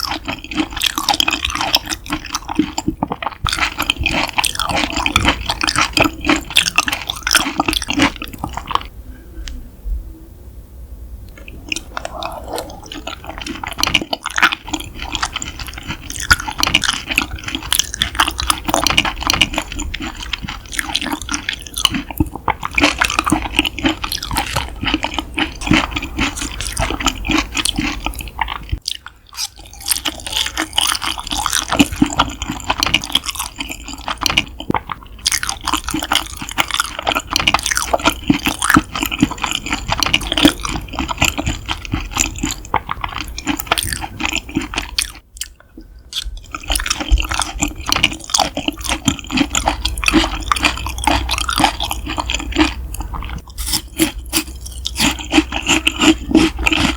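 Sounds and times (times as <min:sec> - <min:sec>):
wet chewing mouth clicks: 0:00.0 - 0:09.6, 0:11.3 - 0:56.9.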